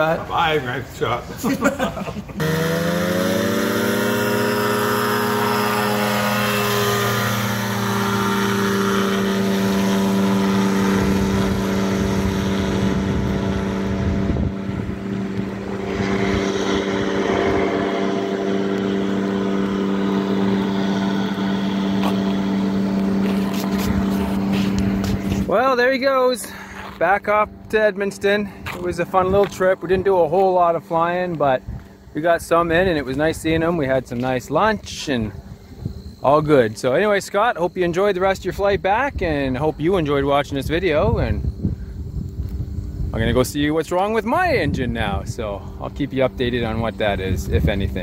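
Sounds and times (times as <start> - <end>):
aircraft engine and propeller: 1.1 - 37.1, 39.7 - 48.0.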